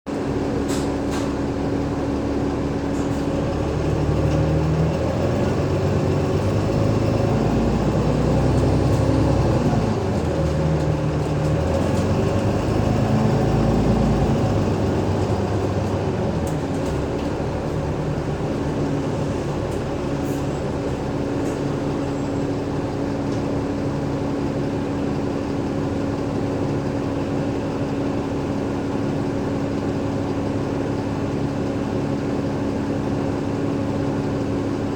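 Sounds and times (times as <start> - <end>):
bus diesel engine running: 0.1 - 34.9.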